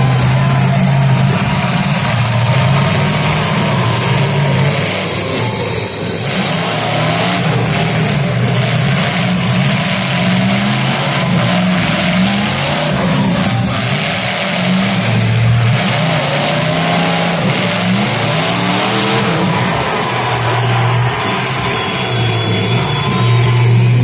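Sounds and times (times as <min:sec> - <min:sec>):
car engines revving loudly: 0:00.0 - 0:24.0.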